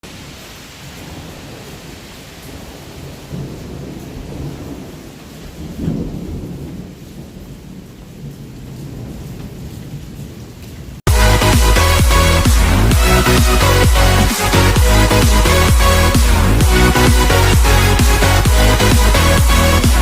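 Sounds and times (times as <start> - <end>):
steady rain: 0.0 - 20.0
thunder rumbling: 1.0 - 20.0.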